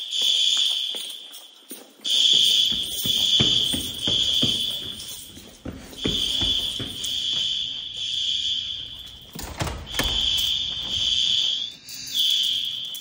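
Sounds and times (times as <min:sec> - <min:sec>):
fire alarm horns: 0:00.0 - 0:13.0
footsteps walking: 0:00.0 - 0:13.0.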